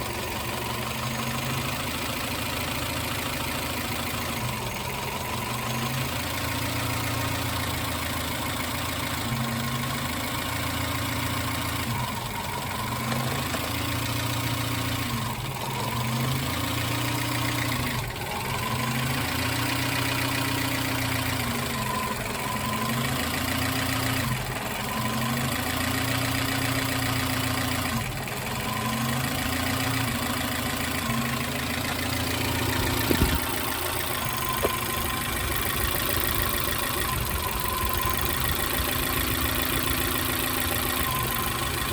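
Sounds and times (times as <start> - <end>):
car engine idling with misfire: 0.0 - 41.9.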